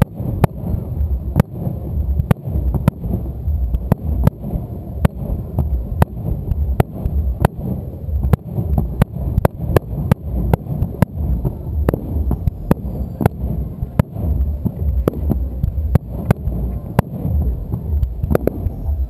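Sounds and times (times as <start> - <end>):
firework shells bursting: 0.0 - 19.0
low booming rumble: 0.0 - 19.0.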